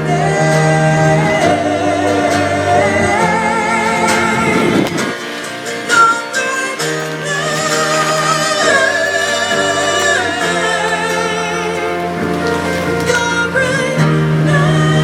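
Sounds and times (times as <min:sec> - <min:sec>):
held low accompaniment notes: 0:00.0 - 0:15.0
person singing with vibrato: 0:00.0 - 0:15.0.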